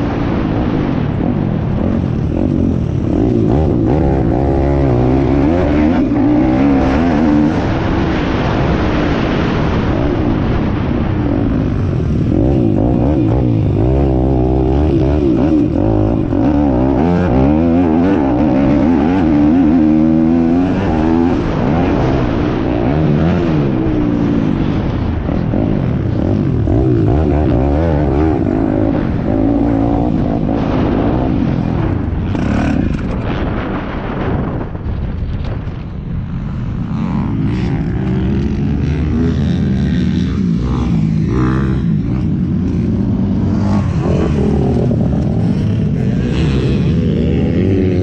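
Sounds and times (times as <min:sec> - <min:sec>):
pit bike engine revving: 0:00.0 - 0:34.0, 0:36.4 - 0:48.0
wind buffeting microphone: 0:00.0 - 0:48.0.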